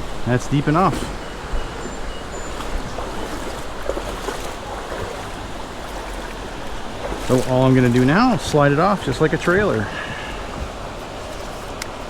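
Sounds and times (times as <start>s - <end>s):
water rushing around kayak: 0.0s - 12.0s.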